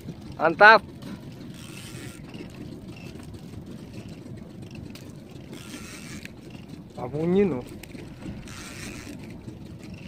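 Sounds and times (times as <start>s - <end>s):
small boat rumble and hiss: 0.0s - 10.0s.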